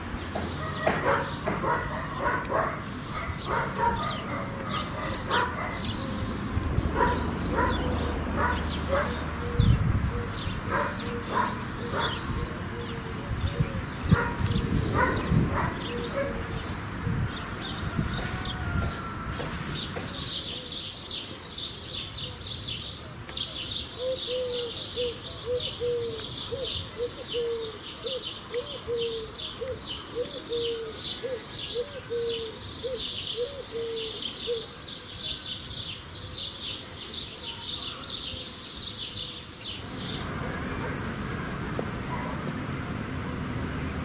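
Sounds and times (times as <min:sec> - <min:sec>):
small birds chirping: 0:00.1 - 0:19.1, 0:19.8 - 0:44.0.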